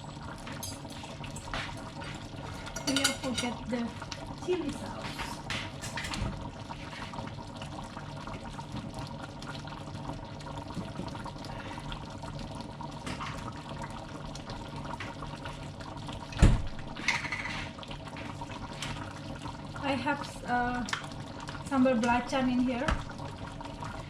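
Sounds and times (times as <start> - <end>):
sauce bubbling in a pan: 0.0 - 24.0.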